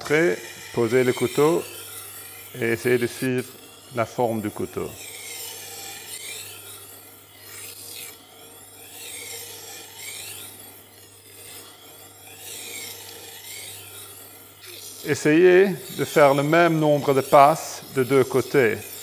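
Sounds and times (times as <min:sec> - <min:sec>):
knife scraping on grinding wheel: 0:00.0 - 0:19.0.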